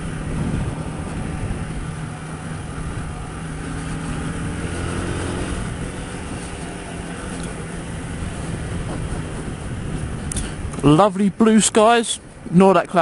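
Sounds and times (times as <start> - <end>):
motorcycle engine running: 0.0 - 10.9
wind noise: 0.0 - 12.5.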